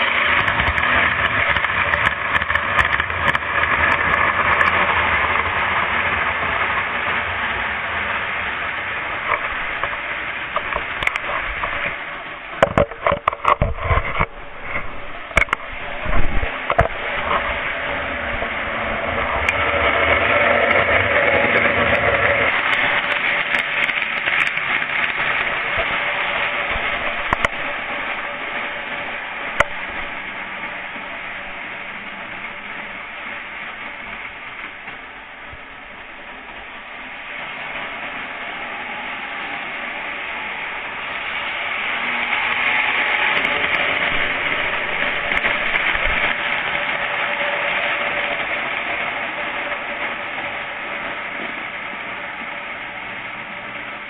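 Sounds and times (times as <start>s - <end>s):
faint steady hum: 0.0s - 54.0s
toy train whirring rattle: 0.0s - 54.0s.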